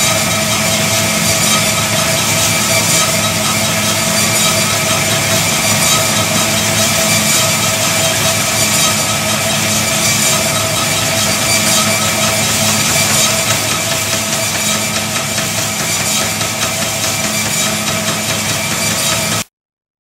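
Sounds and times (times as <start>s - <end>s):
steady tones: 0.0s - 19.4s
treadmill motor and belt hum: 0.0s - 19.5s.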